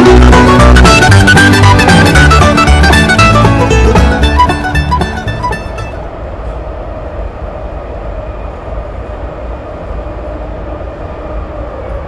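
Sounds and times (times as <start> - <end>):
constant train whine: 0.0 - 12.0
train rumbling from inside: 0.0 - 12.0.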